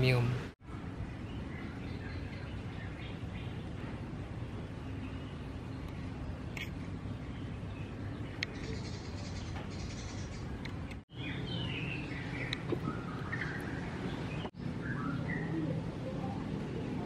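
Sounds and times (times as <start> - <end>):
low background noise: 0.0 - 17.0
small birds chirping: 0.0 - 17.0.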